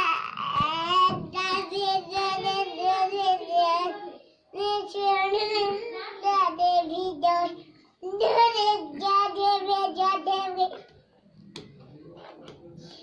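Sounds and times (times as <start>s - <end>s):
child singing: 0.0s - 10.8s.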